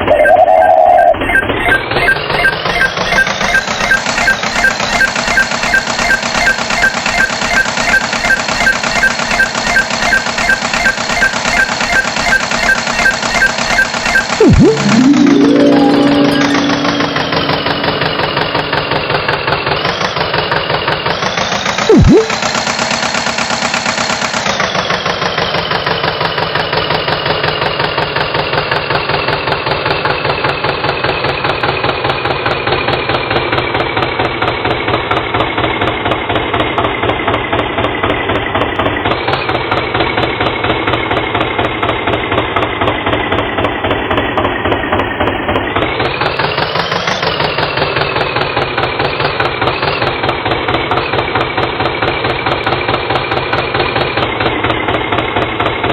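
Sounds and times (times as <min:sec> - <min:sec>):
tractor engine chugging: 0:01.1 - 0:14.5, 0:16.9 - 0:55.9.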